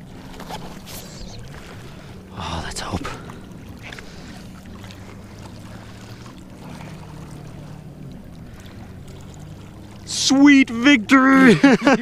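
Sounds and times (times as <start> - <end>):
distant motorboat engine hum: 0.0 - 12.0.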